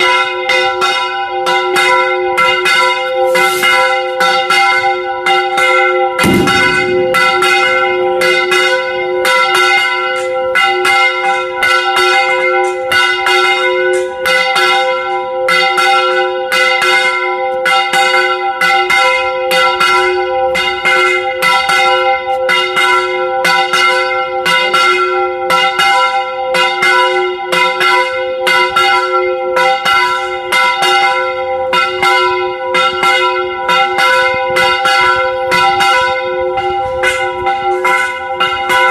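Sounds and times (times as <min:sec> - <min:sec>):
church bells ringing fast: 0:00.0 - 0:38.9.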